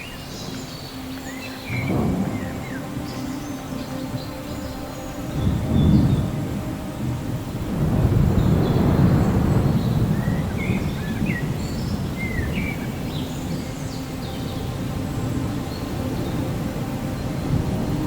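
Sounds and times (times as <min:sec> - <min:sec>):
steady rain: 0:00.0 - 0:18.0
rolling thunder: 0:01.3 - 0:18.0.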